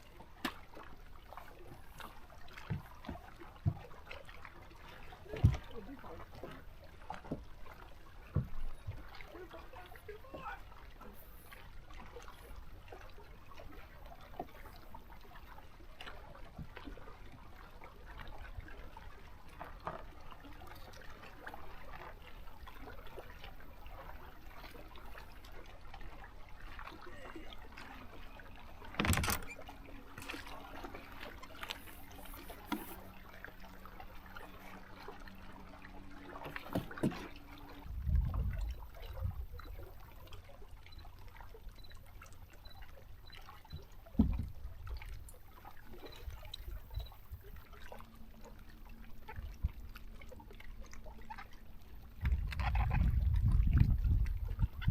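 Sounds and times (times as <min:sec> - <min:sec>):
water lapping against boat: 0:00.0 - 0:54.9.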